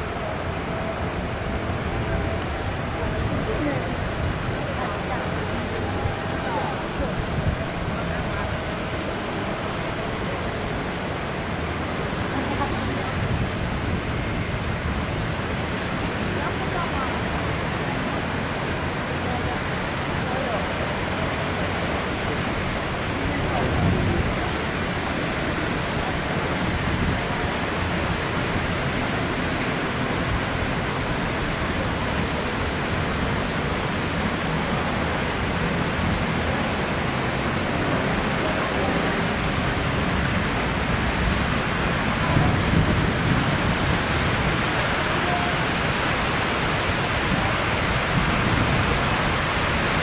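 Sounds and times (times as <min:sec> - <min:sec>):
water rushing along canal: 0:00.0 - 0:50.0.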